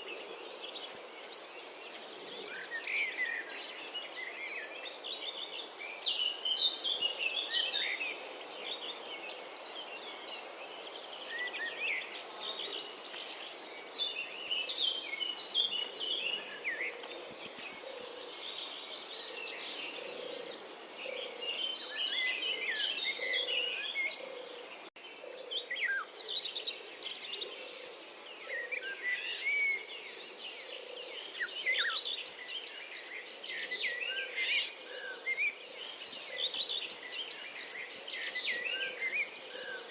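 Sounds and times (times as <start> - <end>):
robin singing: 0.0 - 39.9.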